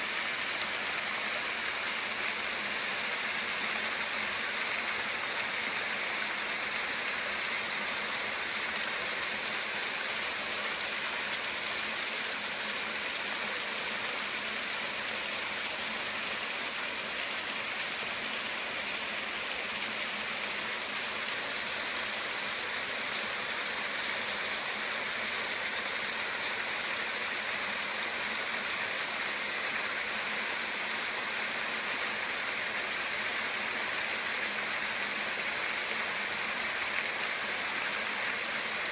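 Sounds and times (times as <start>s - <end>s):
waterfall hissing: 0.0s - 38.9s.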